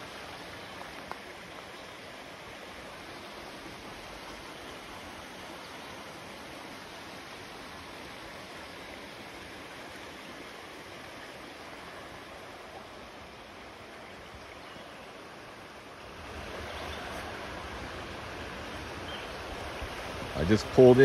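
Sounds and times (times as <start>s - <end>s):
water rushing in rocky creek: 0.0s - 21.0s.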